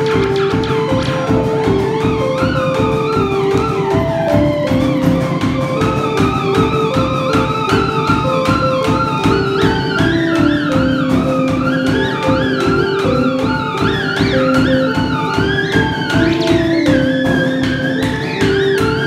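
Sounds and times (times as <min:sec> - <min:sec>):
drum kit beat: 0:00.0 - 0:19.0
electric keyboard notes: 0:00.0 - 0:19.0
wavering theremin line: 0:00.0 - 0:19.0.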